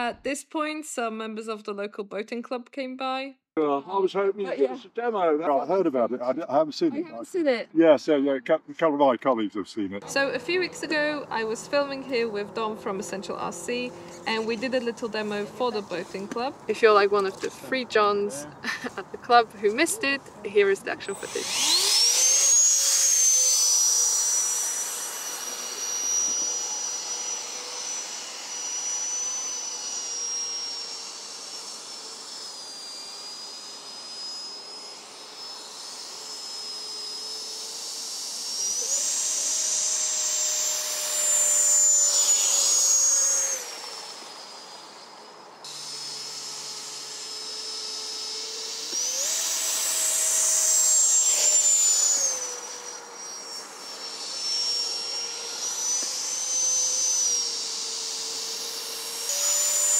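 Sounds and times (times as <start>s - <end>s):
electric fan whining: 10.0s - 59.9s.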